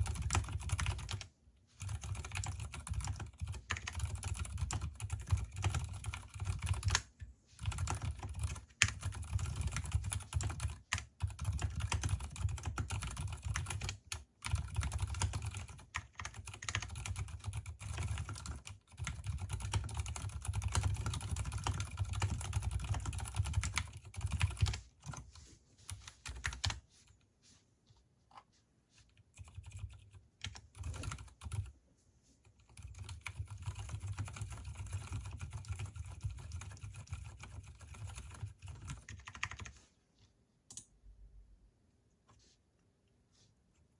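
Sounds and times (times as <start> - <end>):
typing on mechanical keyboard: 0.0 - 25.3, 25.9 - 26.8, 29.3 - 31.7, 32.5 - 39.8.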